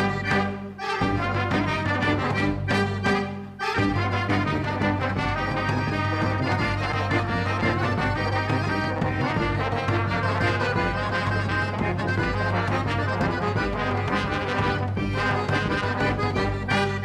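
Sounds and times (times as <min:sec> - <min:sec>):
swing music with brass: 0:00.0 - 0:17.0.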